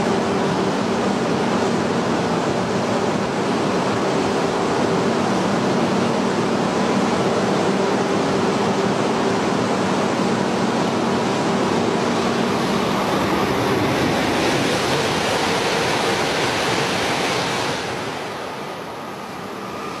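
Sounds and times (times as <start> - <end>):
bullet train passing at speed: 0.0 - 20.0.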